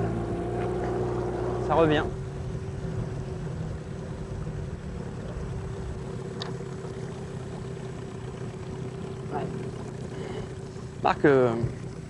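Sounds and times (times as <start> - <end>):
boat motor idling: 0.0 - 12.0
water noise: 0.0 - 12.0
wind: 0.0 - 12.0.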